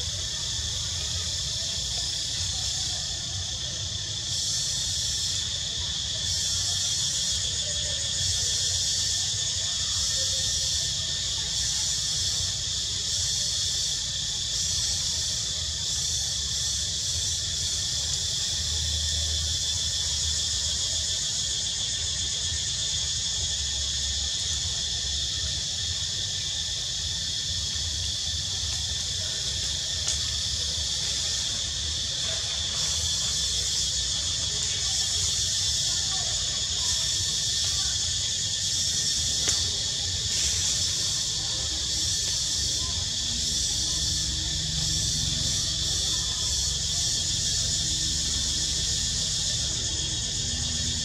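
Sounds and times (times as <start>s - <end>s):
insects chorus: 0.0s - 51.0s.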